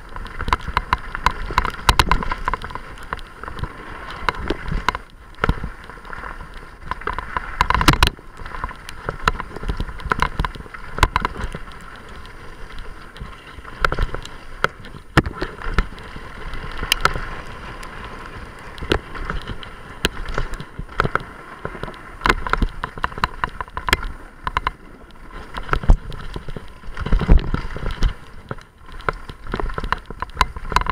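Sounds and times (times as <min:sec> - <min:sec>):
bike rattling over bumps: 0:00.0 - 0:30.9
tyre noise on loose gravel: 0:00.0 - 0:30.9.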